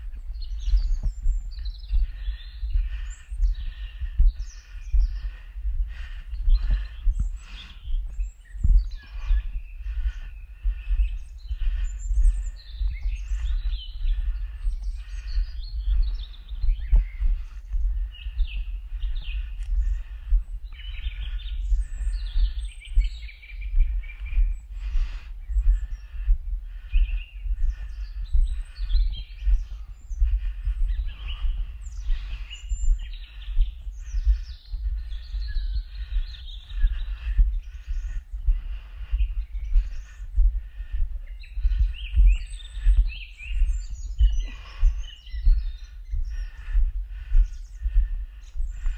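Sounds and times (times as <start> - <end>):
songbirds chirping: 0.0 - 48.9
wind on microphone: 0.0 - 48.9.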